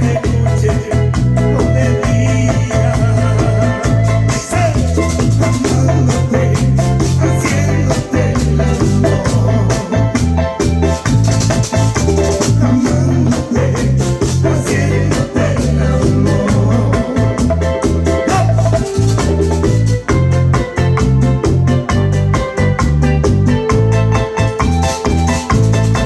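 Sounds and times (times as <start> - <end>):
keyboard chords: 0.0 - 26.0
latin dance band music: 0.0 - 26.0
repeating bass line: 0.0 - 26.0.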